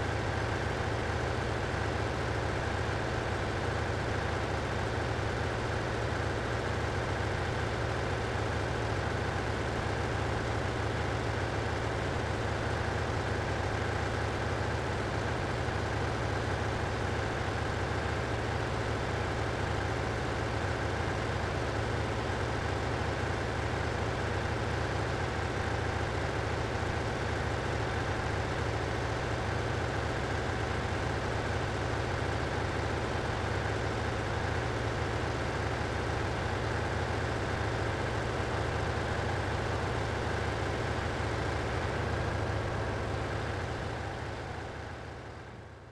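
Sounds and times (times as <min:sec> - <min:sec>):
engine room low hum: 0:00.0 - 0:45.9.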